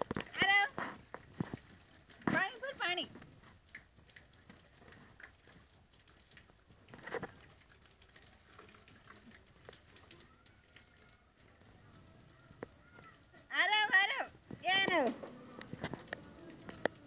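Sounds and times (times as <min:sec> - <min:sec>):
faint rain patter: 0:00.0 - 0:17.0
small drips and ticks: 0:00.0 - 0:17.0.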